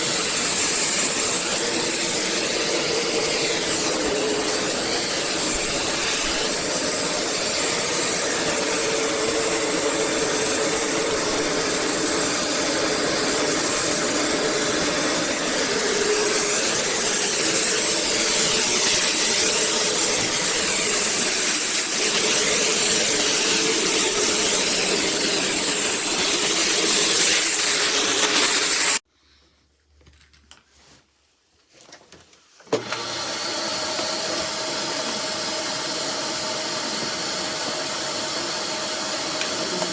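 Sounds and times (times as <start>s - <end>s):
vacuum cleaner running: 0.0s - 29.0s, 32.6s - 39.9s.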